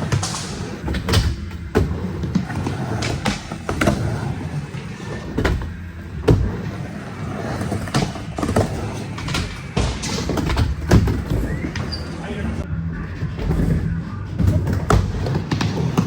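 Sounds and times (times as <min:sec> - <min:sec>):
skateboard wheels rumbling: 0:00.0 - 0:16.0.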